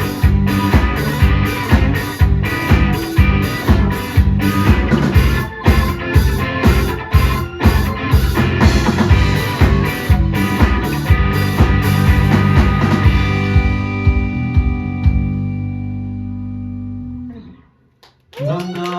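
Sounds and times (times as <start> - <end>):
drum kit beat: 0.0 - 15.8
bass guitar: 0.0 - 17.7
electric guitar: 0.0 - 17.7.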